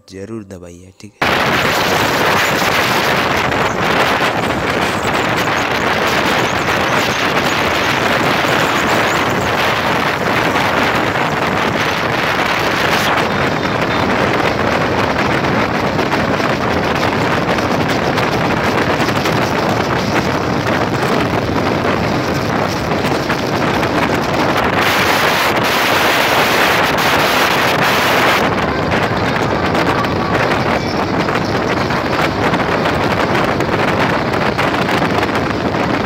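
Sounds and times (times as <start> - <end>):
motorcycle road and engine noise: 1.2 - 36.0
wind rushing over microphone: 1.2 - 36.0.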